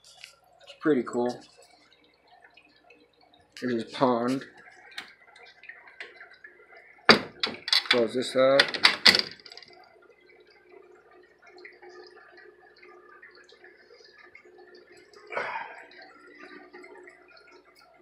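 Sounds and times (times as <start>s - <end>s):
aquarium water bubbling: 0.0s - 18.0s.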